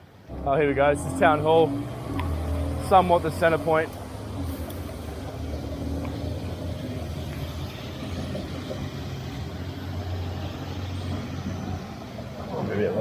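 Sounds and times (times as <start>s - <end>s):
street traffic engine hum: 0.0s - 13.0s.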